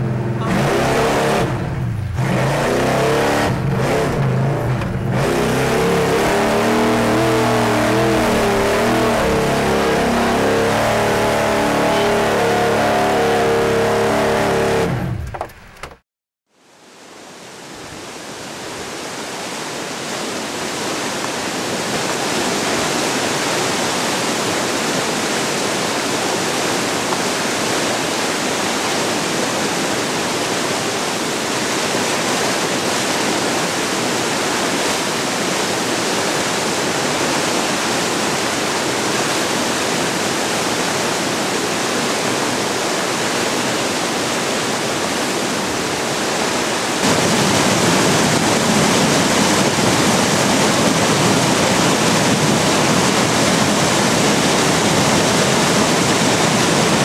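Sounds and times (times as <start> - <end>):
river water rushing: 0.0 - 15.2, 16.6 - 57.0.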